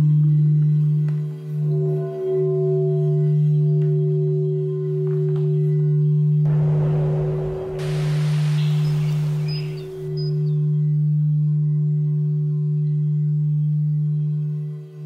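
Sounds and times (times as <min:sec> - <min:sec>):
high sustained bowl tone: 0:00.0 - 0:15.0
singing bowl low hum: 0:00.0 - 0:15.0.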